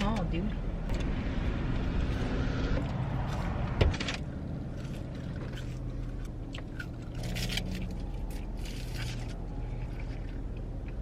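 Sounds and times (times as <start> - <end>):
car engine rumble from cabin: 0.0 - 11.0.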